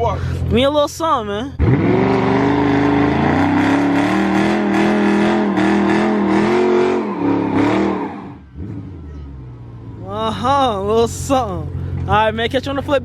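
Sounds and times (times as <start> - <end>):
car engine revving: 1.5 - 13.0.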